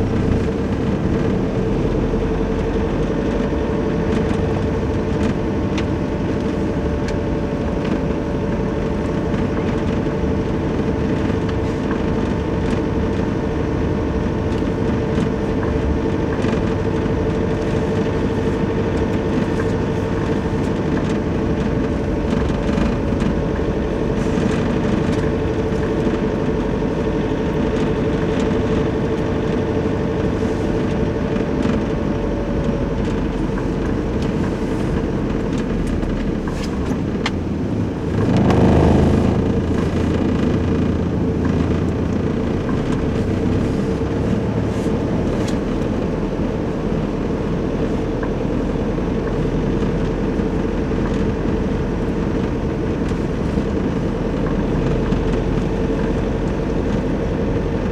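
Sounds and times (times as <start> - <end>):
engine hum: 0.0 - 57.9.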